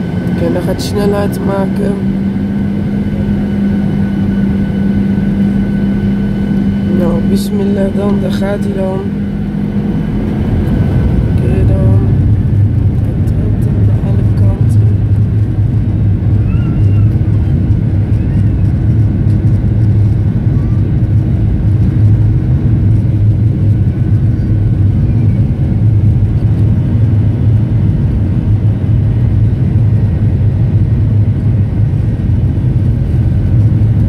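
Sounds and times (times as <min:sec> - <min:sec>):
jet engines rumbling in cabin: 0:00.0 - 0:34.0
low hum: 0:00.0 - 0:34.0.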